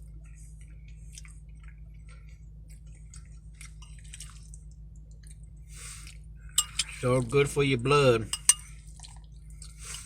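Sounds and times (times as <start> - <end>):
man chewing with smacking clicks: 0.0 - 6.9, 8.6 - 10.0
steady low hum: 0.0 - 10.0.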